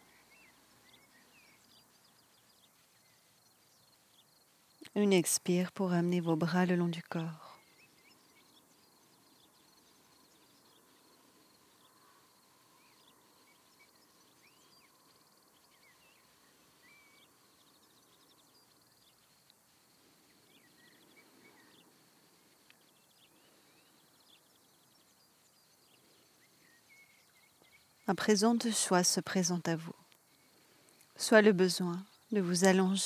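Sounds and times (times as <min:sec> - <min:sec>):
distant bird chirps: 0:00.0 - 0:33.0
faint background hiss: 0:00.0 - 0:33.0.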